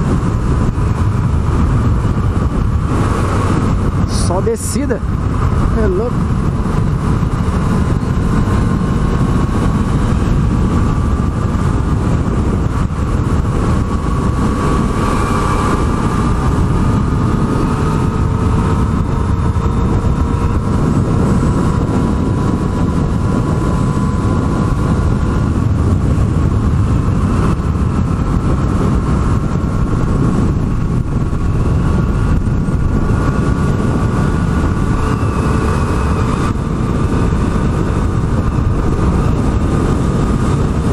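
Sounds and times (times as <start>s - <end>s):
heavy wind: 0.0s - 40.9s
motorcycle engine running: 0.0s - 40.9s
road rumble: 0.0s - 40.9s.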